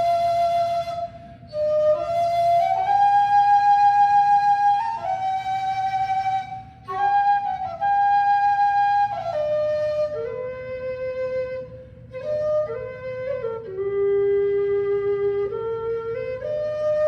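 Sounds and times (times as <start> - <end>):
low whistle slow melody: 0.0 - 17.0.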